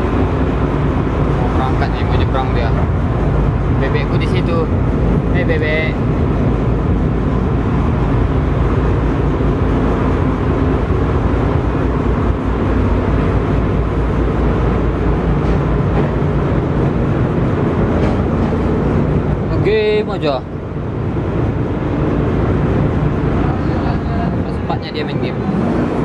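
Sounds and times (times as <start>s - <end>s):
ferry engine rumbling: 0.0s - 26.0s.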